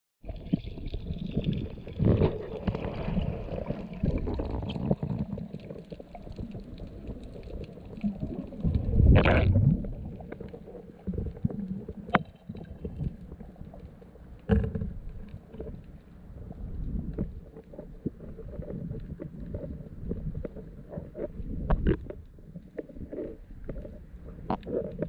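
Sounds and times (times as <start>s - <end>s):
underwater rumbling and gurgling: 0.2s - 25.0s.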